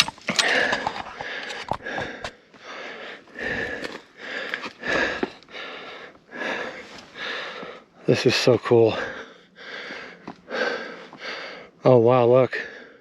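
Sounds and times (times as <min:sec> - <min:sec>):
person breathing heavily: 0:00.3 - 0:08.1, 0:08.7 - 0:11.8, 0:12.5 - 0:13.0.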